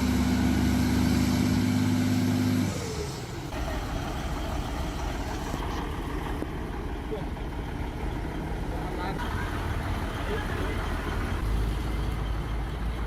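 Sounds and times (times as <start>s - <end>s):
construction equipment engine: 0.0s - 13.0s.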